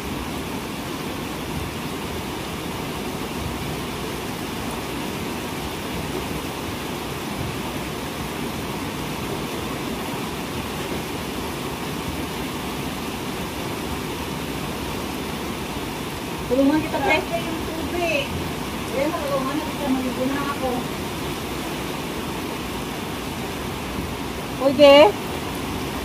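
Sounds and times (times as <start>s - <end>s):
heavy rain on a tiled roof: 0.0s - 26.0s.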